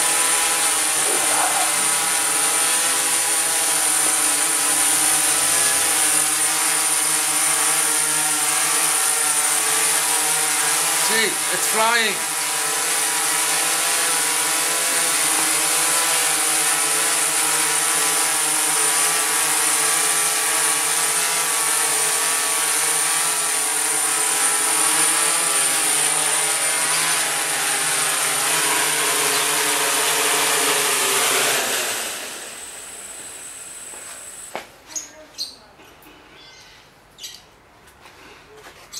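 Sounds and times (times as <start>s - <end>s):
toy drone buzzing: 0.0s - 35.5s.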